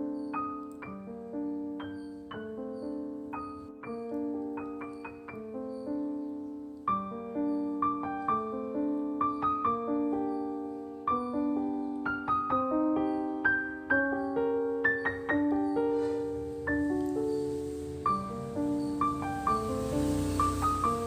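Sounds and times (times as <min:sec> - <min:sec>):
slow piano piece: 0:00.0 - 0:21.0.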